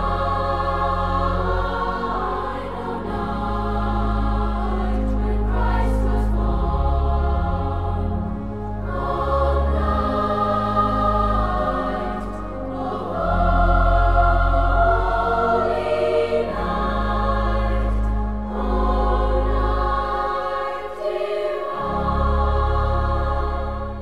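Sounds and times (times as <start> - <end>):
choir singing sustained chords: 0.0 - 24.0.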